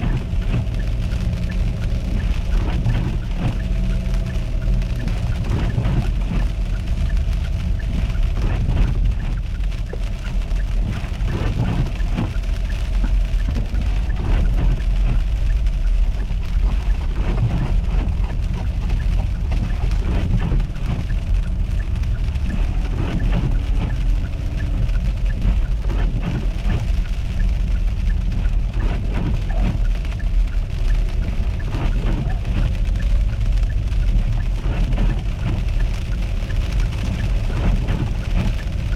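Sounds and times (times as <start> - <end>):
tyres and engine rumble: 0.0 - 38.9.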